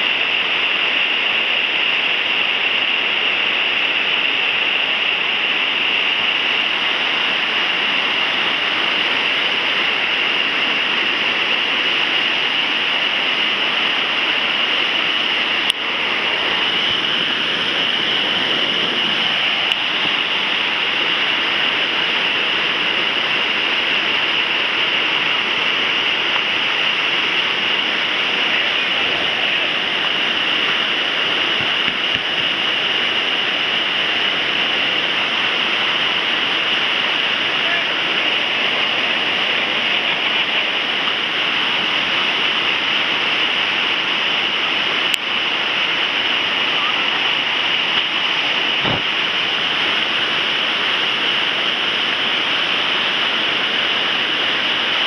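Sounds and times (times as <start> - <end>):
water rushing over a weir: 0.0 - 55.0.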